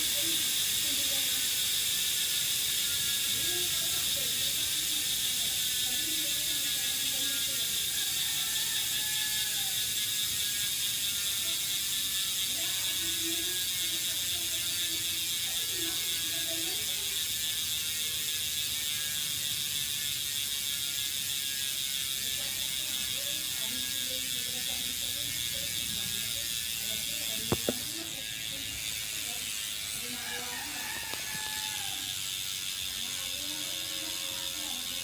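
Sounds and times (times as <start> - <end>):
bicycle hub ratchet buzzing: 0.0 - 35.0.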